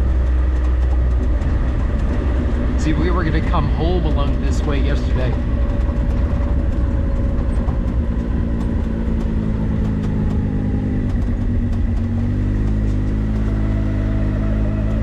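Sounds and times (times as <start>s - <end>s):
tyre and road rumble: 0.0s - 15.0s
vehicle engine running: 0.0s - 15.0s.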